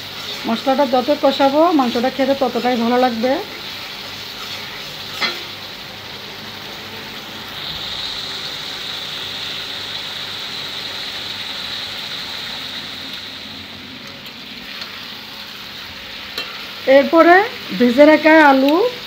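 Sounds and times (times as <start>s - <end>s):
masala sizzling in hot oil: 0.0s - 19.0s.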